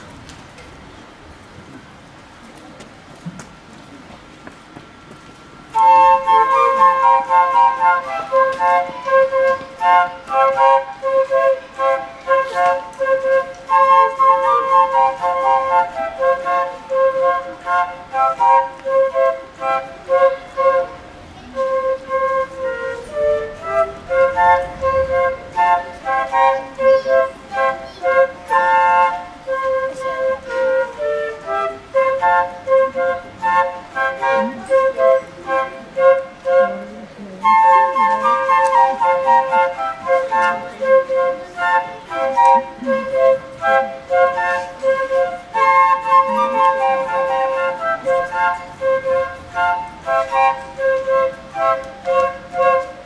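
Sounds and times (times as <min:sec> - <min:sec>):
flutes playing a tune: 0:05.7 - 0:53.0.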